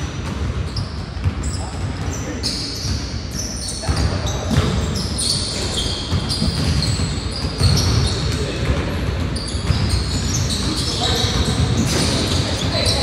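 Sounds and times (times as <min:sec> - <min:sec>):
basketball bouncing: 0:00.0 - 0:02.2, 0:03.8 - 0:13.0
sneakers squeaking on floor: 0:00.0 - 0:13.0.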